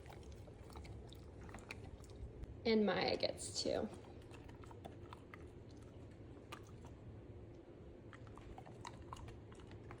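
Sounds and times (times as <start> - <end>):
dogs chewing treats: 0.0 - 2.5, 3.5 - 10.0.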